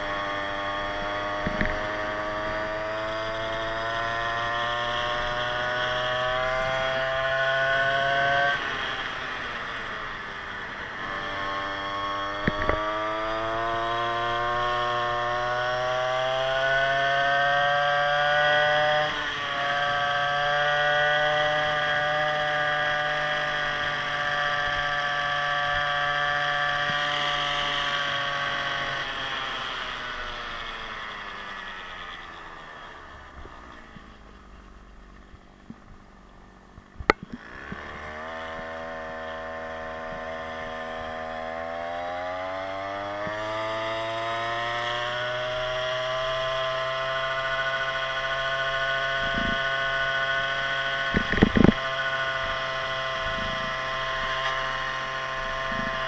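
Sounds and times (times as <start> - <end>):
small two-stroke engine revving: 0.0 - 56.0.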